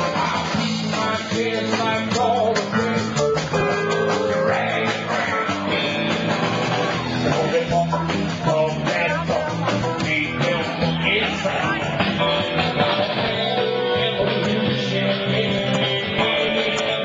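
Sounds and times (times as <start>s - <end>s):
live blues-rock band: 0.0s - 17.0s.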